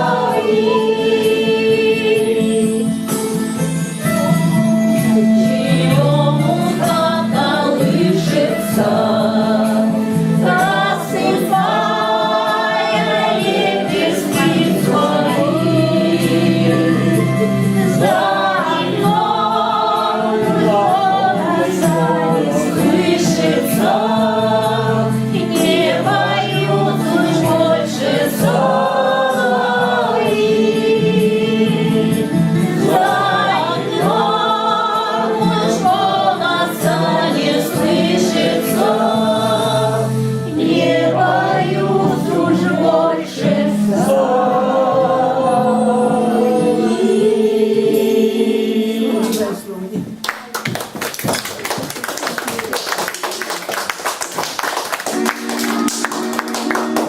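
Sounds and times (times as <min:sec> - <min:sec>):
group of voices singing: 0:00.0 - 0:49.8.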